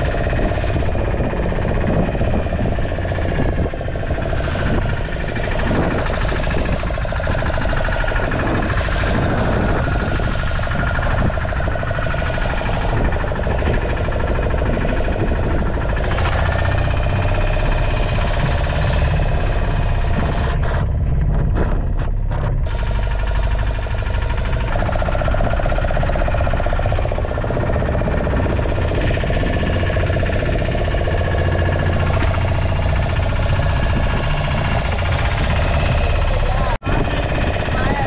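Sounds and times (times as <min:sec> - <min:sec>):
boat engine running: 0:00.0 - 0:38.0
wind: 0:00.0 - 0:38.0.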